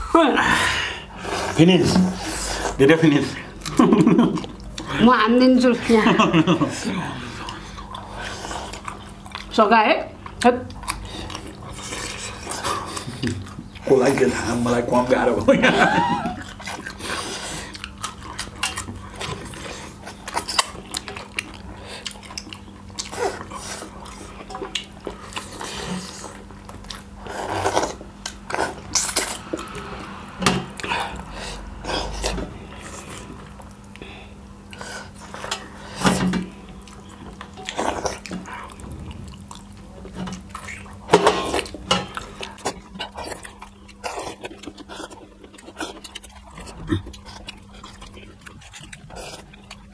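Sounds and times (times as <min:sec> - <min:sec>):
faint steady hum: 0:00.0 - 0:49.9
mouth sounds of eating: 0:00.0 - 0:49.9.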